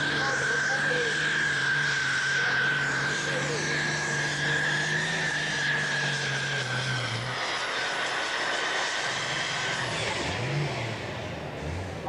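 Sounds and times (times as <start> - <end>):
high steady whine: 0.0 - 11.6
tractor engine running: 0.0 - 12.0.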